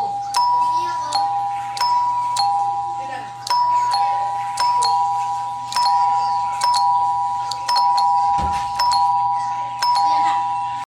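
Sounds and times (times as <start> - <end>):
two-tone doorbell chime: 0.0 - 10.9.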